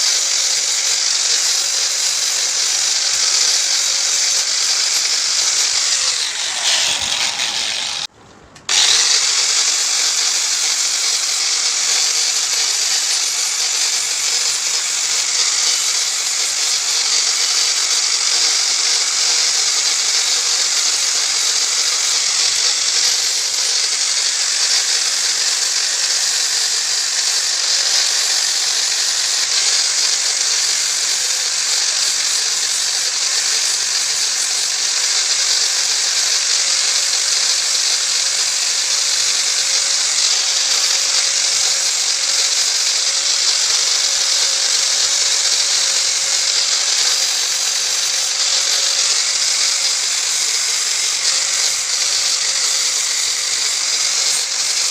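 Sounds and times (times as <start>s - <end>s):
power tool grinding metal: 0.0s - 54.9s.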